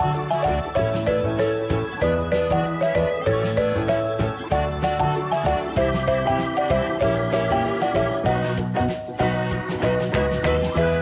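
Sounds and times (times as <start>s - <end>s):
bright instrumental music: 0.0s - 11.0s.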